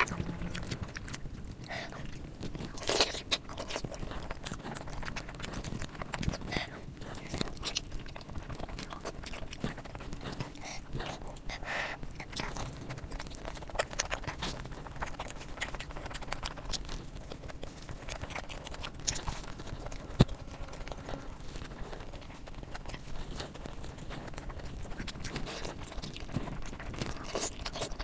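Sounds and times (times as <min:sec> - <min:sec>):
person chewing and biting: 0:00.0 - 0:28.0.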